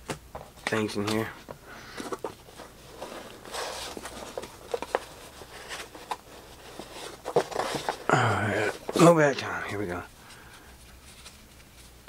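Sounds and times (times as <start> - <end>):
trading cards rustling: 0.6 - 12.0.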